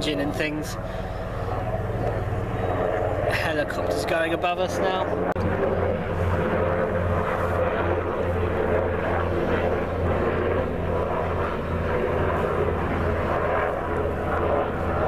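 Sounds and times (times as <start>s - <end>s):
helicopter rotor drone: 0.0s - 15.0s.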